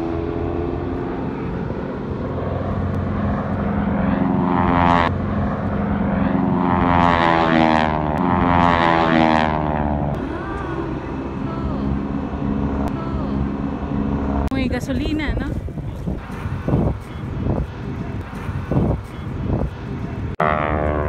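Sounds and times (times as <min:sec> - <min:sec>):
propeller plane engine overhead: 0:00.0 - 0:21.0.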